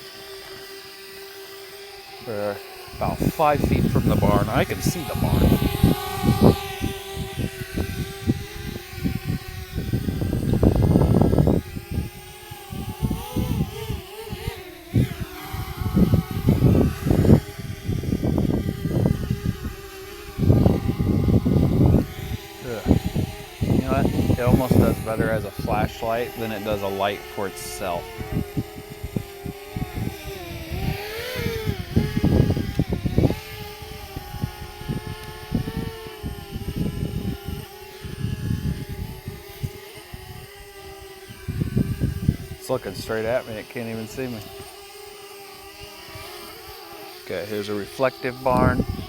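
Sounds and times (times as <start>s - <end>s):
drone propellers whining: 0.0s - 49.0s.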